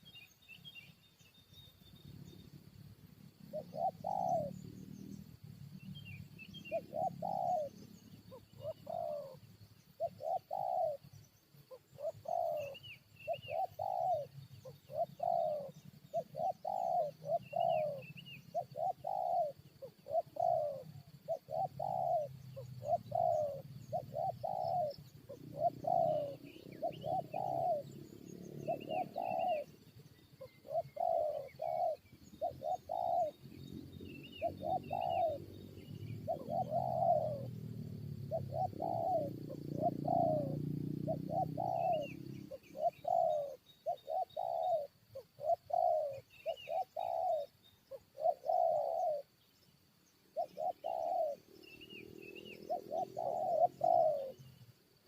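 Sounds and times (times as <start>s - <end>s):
small birds chirping: 0.0s - 55.0s
doves cooing: 3.3s - 5.1s, 5.8s - 49.4s, 50.3s - 55.0s.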